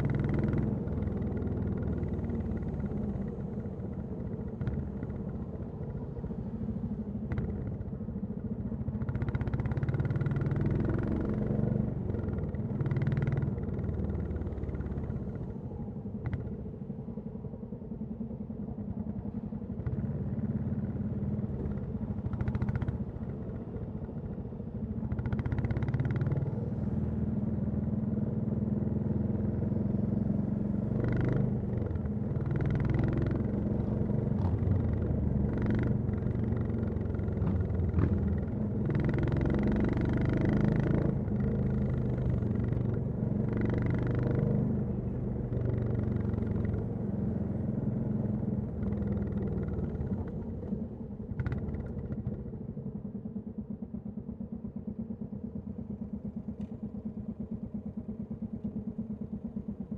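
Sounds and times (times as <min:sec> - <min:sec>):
motorcycle engine idling: 0:00.0 - 0:59.9
motorcycle engine revving: 0:08.8 - 0:16.8, 0:18.9 - 0:59.9.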